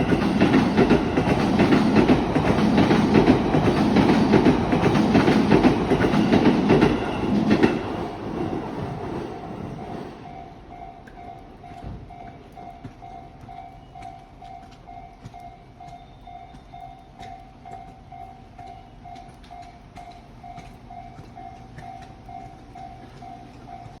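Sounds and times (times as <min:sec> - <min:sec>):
level-crossing alarm bell: 0:00.0 - 0:24.0.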